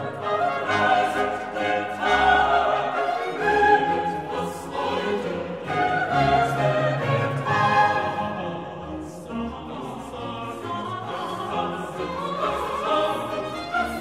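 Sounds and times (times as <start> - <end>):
orchestra playing: 0.0 - 14.0
voices singing sustained notes: 0.0 - 14.0.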